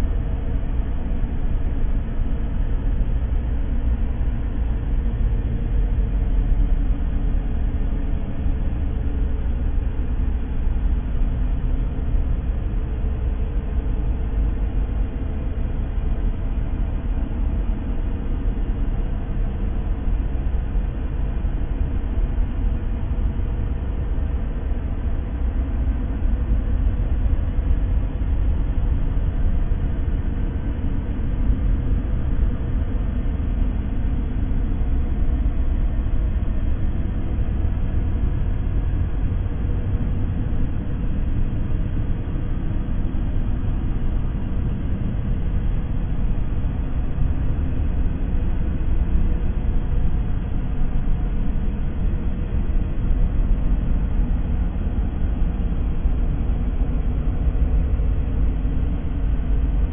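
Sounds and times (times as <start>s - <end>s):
deep rumbling white noise: 0.0s - 59.9s.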